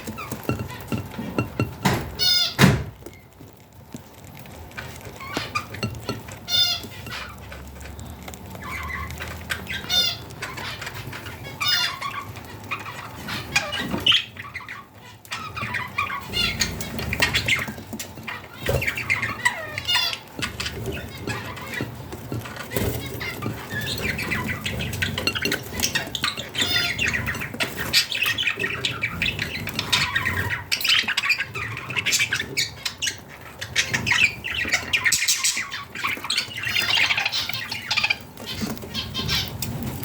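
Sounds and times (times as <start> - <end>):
budgerigars chirping and warbling: 0.0 - 40.0.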